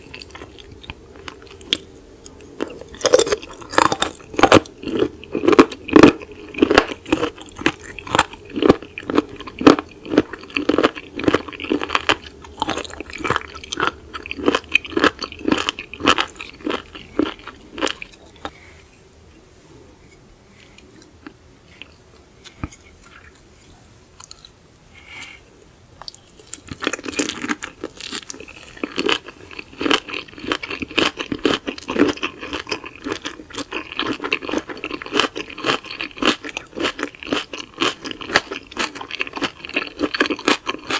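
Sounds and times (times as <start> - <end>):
wet chewing and crunching: 0.0 - 18.6, 26.0 - 40.9.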